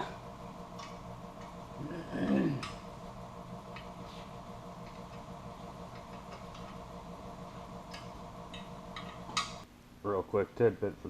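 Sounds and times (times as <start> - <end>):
machine hum: 0.0 - 9.7.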